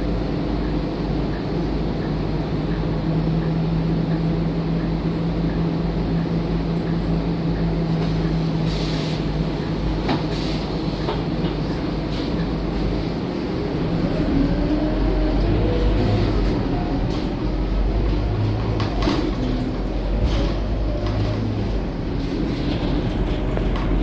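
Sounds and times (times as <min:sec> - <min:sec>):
bus engine and road drone: 0:00.0 - 0:24.0.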